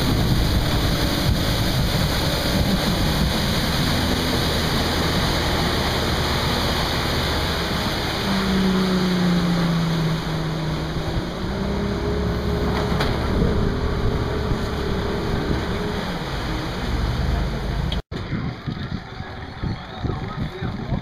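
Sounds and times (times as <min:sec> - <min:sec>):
speedboat engine humming: 0:00.0 - 0:21.0
wind and water rushing: 0:00.0 - 0:21.0.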